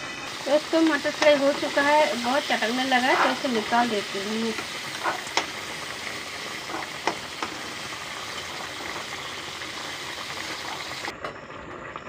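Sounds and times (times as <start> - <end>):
peas sizzling in hot oil: 0.0 - 11.1.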